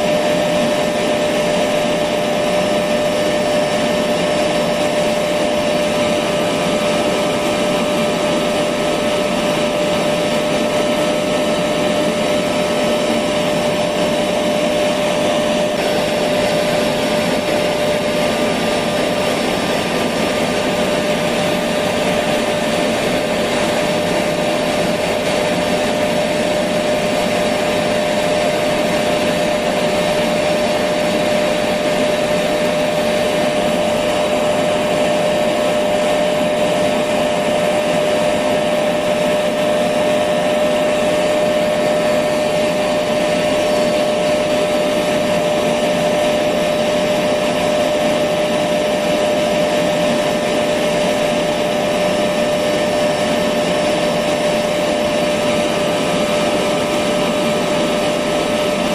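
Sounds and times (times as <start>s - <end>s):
vacuum cleaner running: 0.0s - 58.9s.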